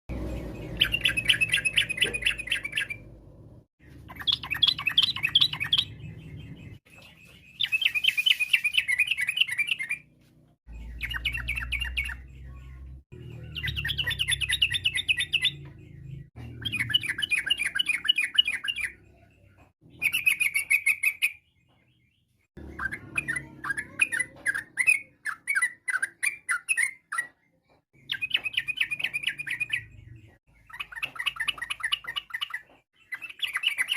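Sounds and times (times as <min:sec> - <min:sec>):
bulbul singing: 0:00.1 - 0:10.1, 0:10.7 - 0:33.9.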